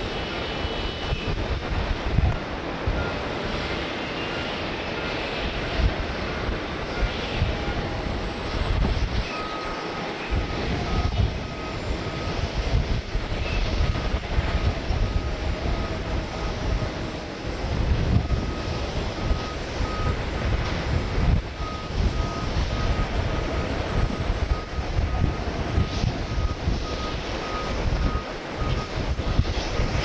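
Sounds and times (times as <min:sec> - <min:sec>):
distant jet engine rumble: 0:00.0 - 0:30.0
reversing alarm beeps: 0:02.9 - 0:17.4, 0:18.1 - 0:30.0.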